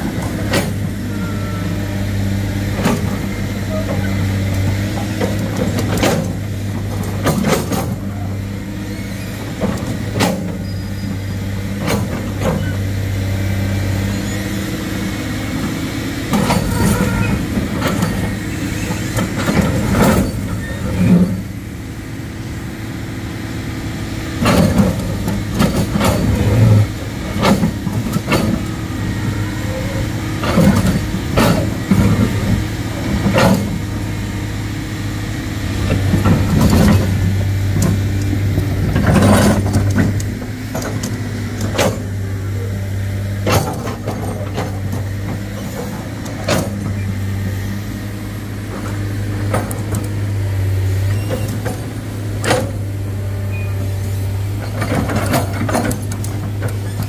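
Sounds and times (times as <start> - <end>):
heavy machine engine humming: 0.0 - 57.0.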